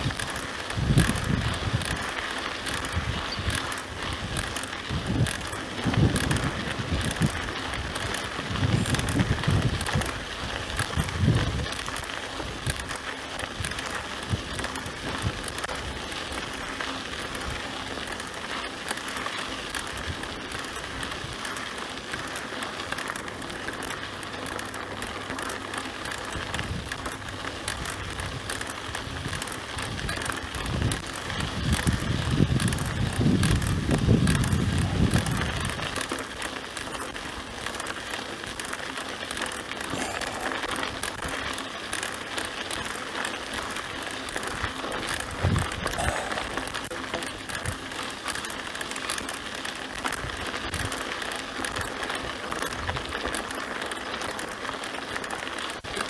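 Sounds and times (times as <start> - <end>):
bike tyre noise: 0.0 - 56.0.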